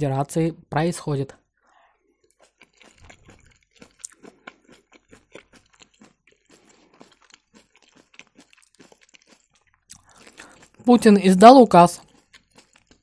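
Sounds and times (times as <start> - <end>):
chewing crunches: 1.4 - 11.0, 11.9 - 13.0.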